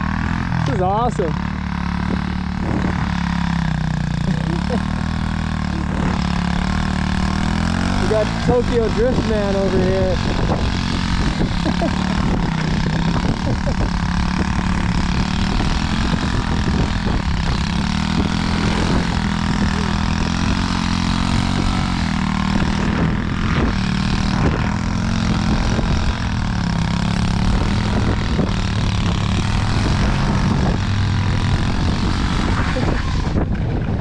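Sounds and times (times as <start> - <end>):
pit bike engine revving: 0.0 - 34.0
steady rushing noise: 0.0 - 34.0.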